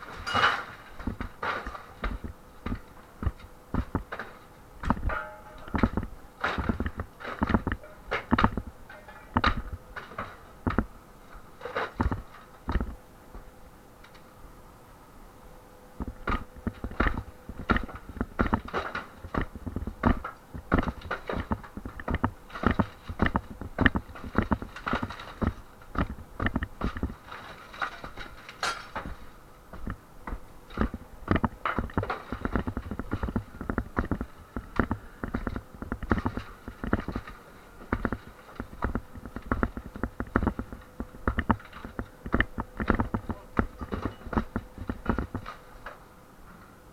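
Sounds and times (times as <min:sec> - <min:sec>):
knocks and thuds of tools and debris: 0:00.0 - 0:10.9, 0:11.6 - 0:13.5, 0:16.0 - 0:46.0.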